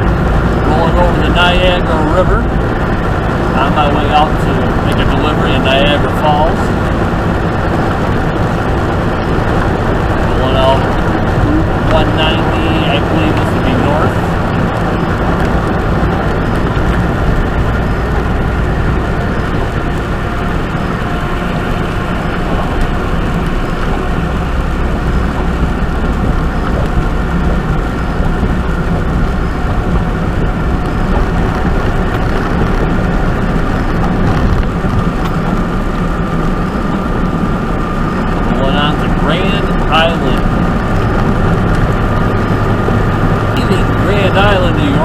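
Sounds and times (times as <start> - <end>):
truck engine and road drone: 0.0 - 45.0.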